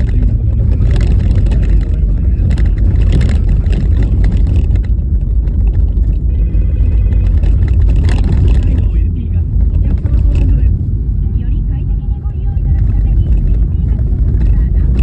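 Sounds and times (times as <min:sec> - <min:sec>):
knocks and rattles: 0:00.0 - 0:10.9, 0:12.5 - 0:15.0
road and tyre rumble: 0:00.0 - 0:15.0.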